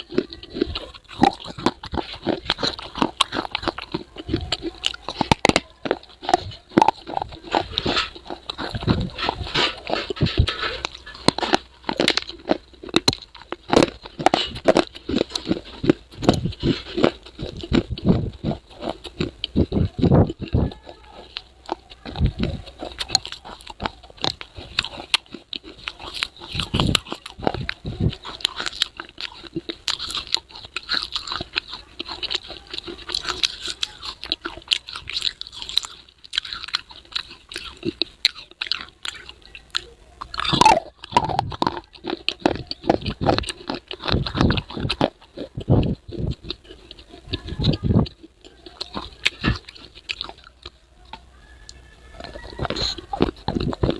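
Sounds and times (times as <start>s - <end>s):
person chewing crunchy clay: 0.0s - 53.9s.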